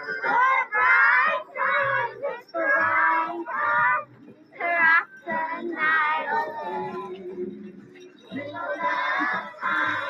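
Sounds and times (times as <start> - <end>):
children singing: 0.0 - 10.0.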